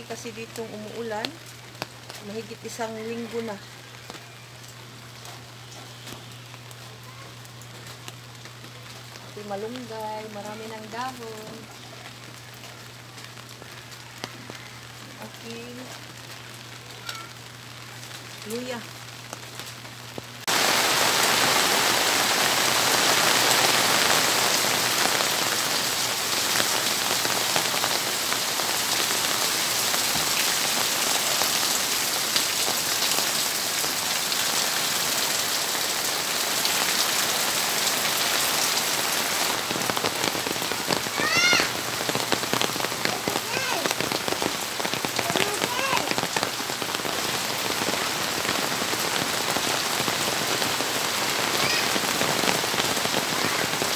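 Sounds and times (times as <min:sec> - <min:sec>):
heavy rain on metal roof: 0:00.0 - 0:53.9
water pouring off roof: 0:10.3 - 0:53.9.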